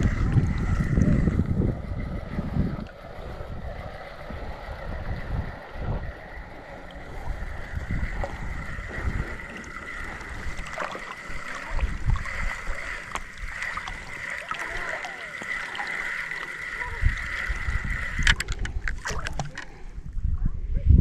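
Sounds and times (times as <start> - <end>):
wind rumble on microphone: 0.0 - 14.9, 16.7 - 21.0
water lapping around a boat: 0.0 - 20.2.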